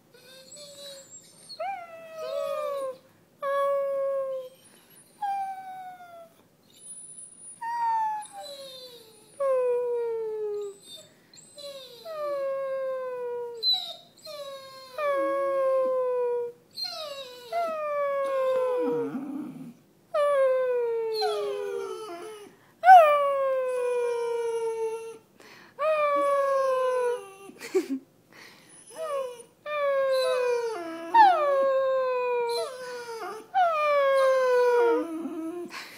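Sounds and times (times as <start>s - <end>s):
dog howling and whining: 0.1s - 25.2s, 28.9s - 35.7s.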